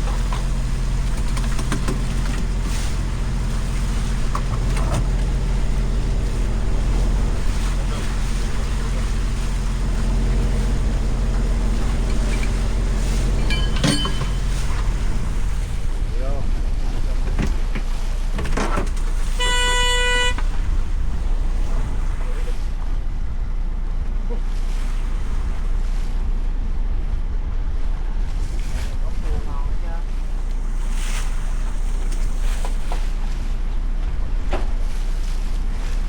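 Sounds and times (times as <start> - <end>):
water noise: 0.0 - 29.3
boat engine running: 0.0 - 36.0
wind: 0.0 - 36.0.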